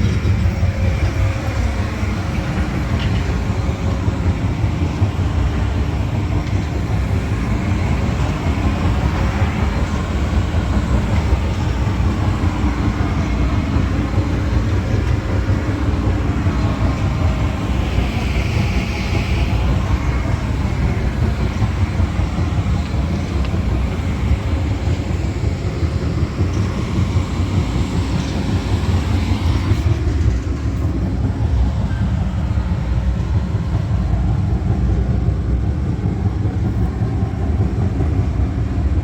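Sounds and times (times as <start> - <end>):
truck diesel engine rumbling: 0.0 - 39.0.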